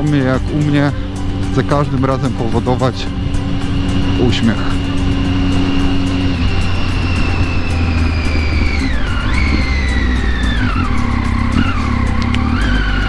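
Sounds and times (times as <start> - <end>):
motorcycle engine revs falling: 0.0 - 13.0
wind rush on microphone: 0.0 - 13.0.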